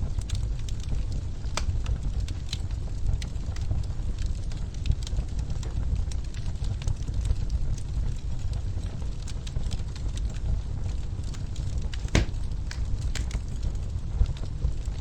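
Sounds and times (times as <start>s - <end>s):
burning logs rumble: 0.0s - 15.0s
fire crackles and pops: 0.0s - 15.0s.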